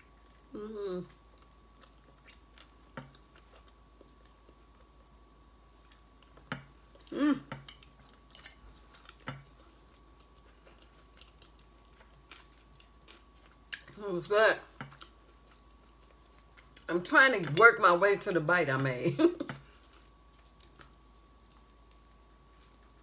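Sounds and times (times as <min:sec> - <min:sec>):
person chewing food: 0:00.0 - 0:14.0, 0:14.6 - 0:16.9, 0:19.5 - 0:23.0.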